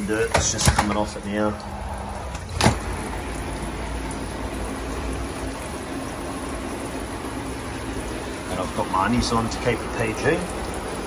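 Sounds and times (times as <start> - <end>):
shower water spraying: 0.0 - 11.0.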